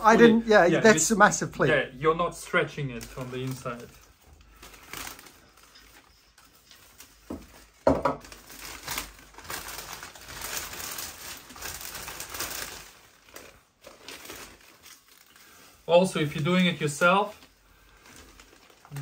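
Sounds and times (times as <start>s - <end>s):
plastic film crinkling and rustling: 0.0s - 19.0s.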